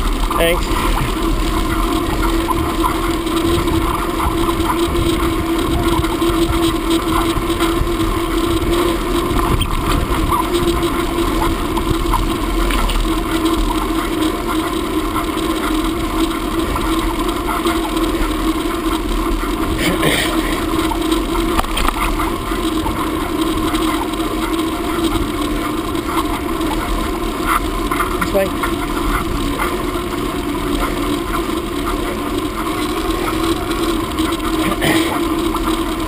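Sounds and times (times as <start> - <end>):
steady engine drone: 0.0 - 36.0.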